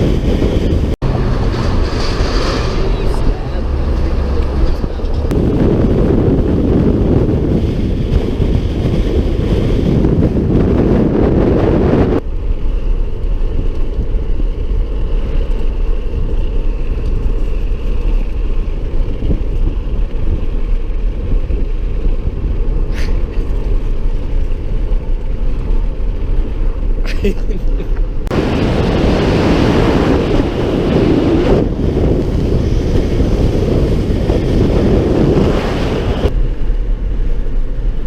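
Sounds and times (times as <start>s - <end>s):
moving vehicle rumble: 0.0s - 38.0s
wind on microphone: 0.0s - 38.0s.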